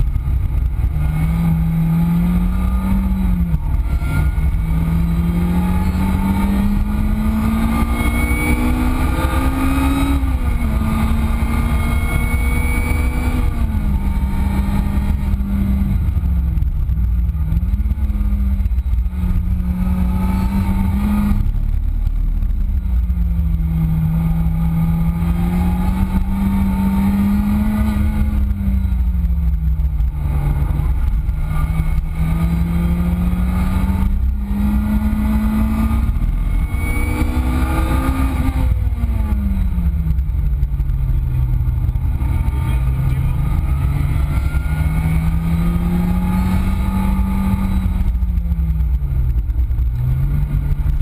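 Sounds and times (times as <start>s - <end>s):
heavy low rumble: 0.0s - 51.0s
car engine revving hard: 0.6s - 16.2s, 23.4s - 48.9s.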